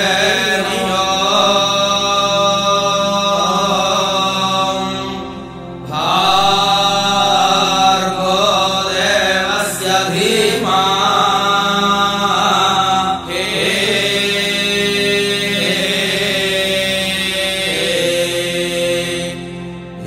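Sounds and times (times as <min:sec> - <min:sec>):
person chanting: 0:00.0 - 0:20.0
steady drone: 0:00.0 - 0:20.0.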